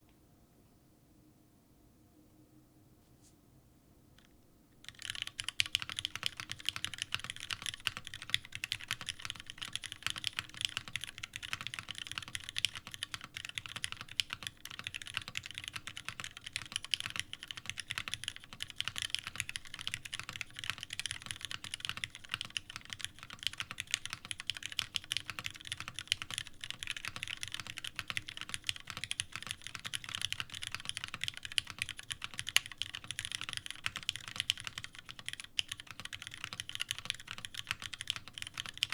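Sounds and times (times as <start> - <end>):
fast mechanical keyboard typing: 4.8 - 38.9.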